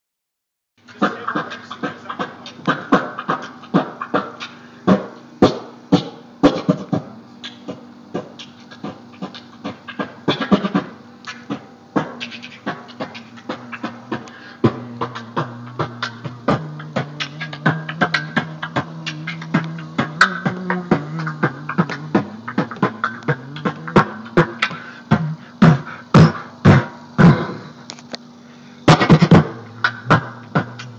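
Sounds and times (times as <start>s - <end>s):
beatboxing percussive mouth hits: 0.8s - 30.9s
hummed bass line: 1.0s - 30.9s.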